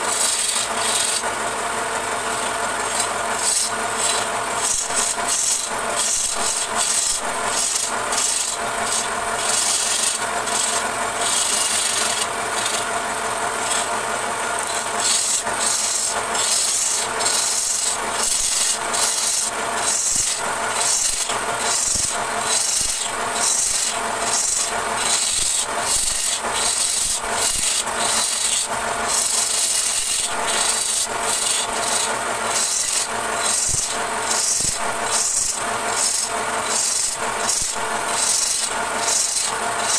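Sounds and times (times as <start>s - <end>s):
gouge rasping on spinning wood: 0.0s - 39.9s
lathe humming: 0.0s - 39.9s.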